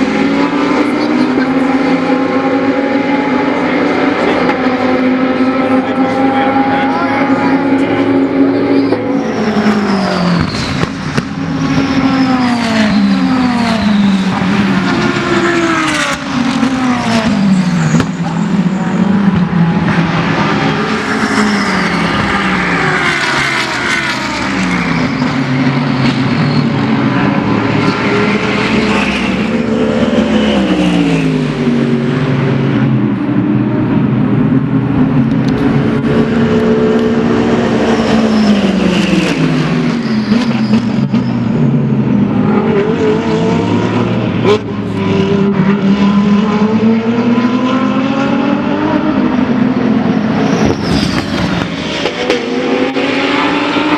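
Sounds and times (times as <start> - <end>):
race cars passing: 0.0 - 53.9.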